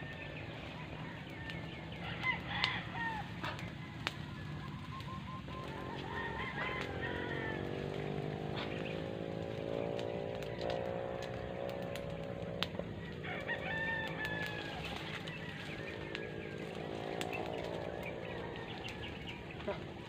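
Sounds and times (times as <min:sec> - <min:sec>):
roosters crowing: 0:00.0 - 0:20.0.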